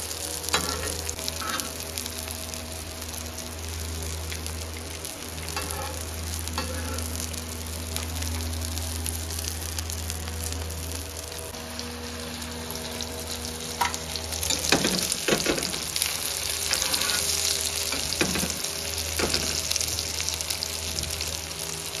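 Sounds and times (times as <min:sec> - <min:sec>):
kababs sizzling in oil: 0:00.0 - 0:22.0.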